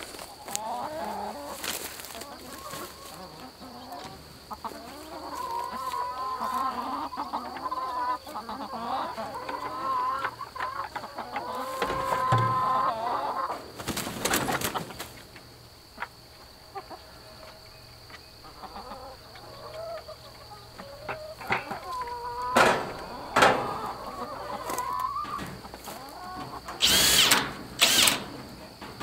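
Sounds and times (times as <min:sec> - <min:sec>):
hens clucking and calling: 0:00.0 - 0:29.0.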